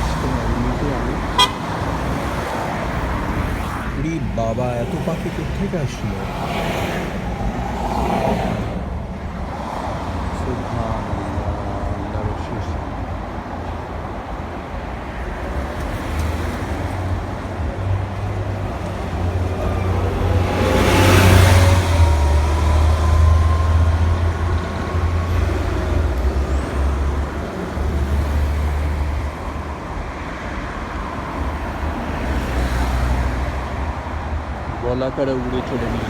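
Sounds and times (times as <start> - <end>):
vehicle passing close: 0.0 - 13.2, 15.1 - 34.4
steady low traffic rumble: 0.0 - 36.0.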